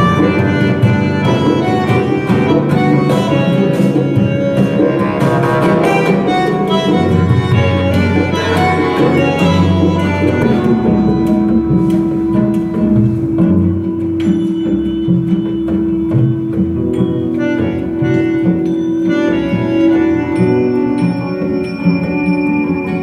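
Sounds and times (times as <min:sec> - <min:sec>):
music with strings and percussion: 0:00.0 - 0:23.0.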